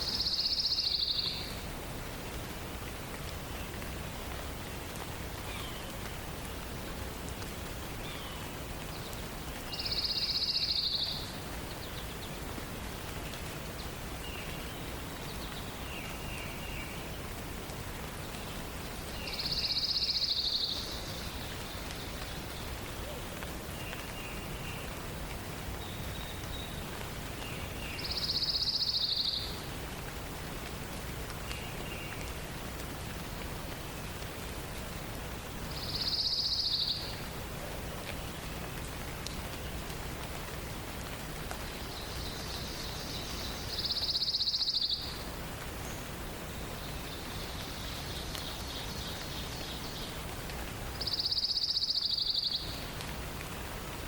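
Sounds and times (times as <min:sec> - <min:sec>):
songbird song phrase: 0:00.0 - 0:29.9, 0:31.3 - 0:34.7, 0:35.6 - 0:54.0
steady background hiss: 0:00.0 - 0:54.0.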